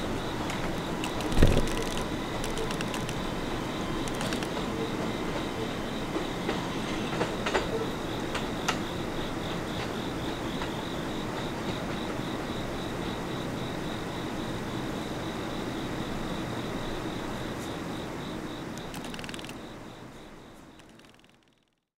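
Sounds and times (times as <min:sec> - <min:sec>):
subway train rumbling: 0:00.0 - 0:18.6.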